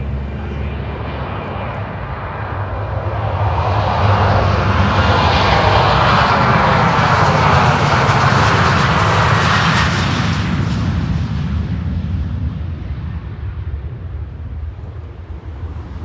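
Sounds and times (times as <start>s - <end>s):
loud jet engine roar: 0.0s - 16.0s.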